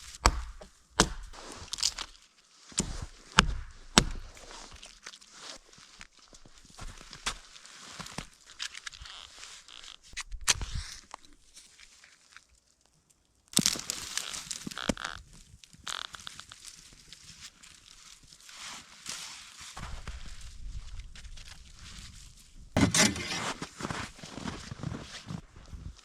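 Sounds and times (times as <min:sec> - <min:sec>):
crunching and rustling in snow: 0:01.2 - 0:12.7, 0:13.6 - 0:26.0.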